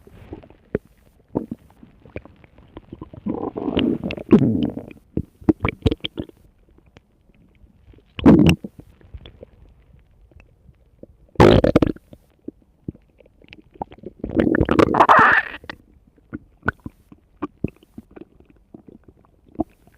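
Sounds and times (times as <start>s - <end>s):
stomach growling: 0.0s - 19.9s.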